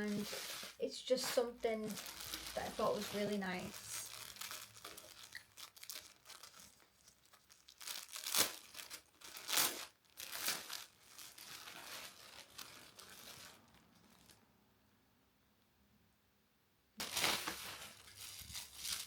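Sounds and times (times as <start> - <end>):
packaging crinkling and tearing: 0.0 - 14.4, 17.0 - 19.0.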